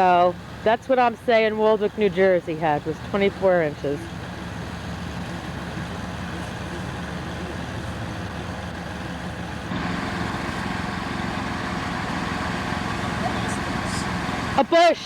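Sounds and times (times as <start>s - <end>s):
snow-clearing machine engine: 0.0s - 15.0s.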